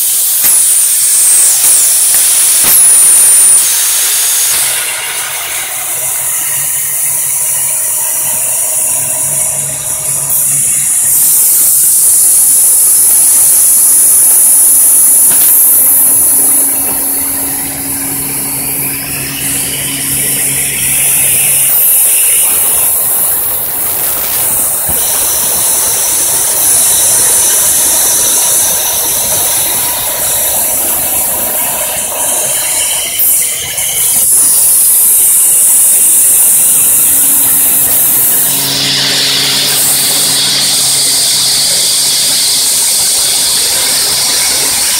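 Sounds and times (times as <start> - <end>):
factory machinery hiss: 0.0 - 44.9.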